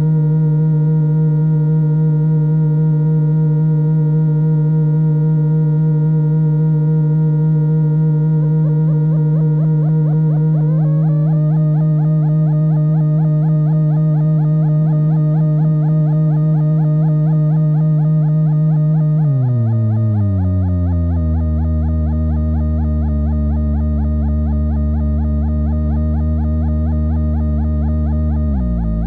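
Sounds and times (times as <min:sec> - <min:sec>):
analog synth drone with warble: 0:00.0 - 0:29.0.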